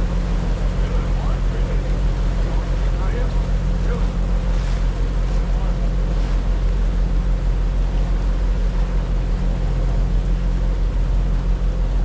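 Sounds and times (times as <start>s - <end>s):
boat engines droning: 0.0s - 12.0s.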